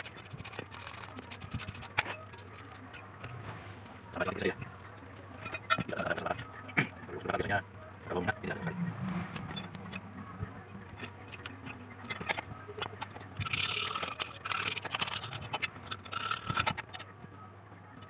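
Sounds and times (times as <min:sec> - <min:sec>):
scraping and scratching on parts: 0:00.0 - 0:17.2.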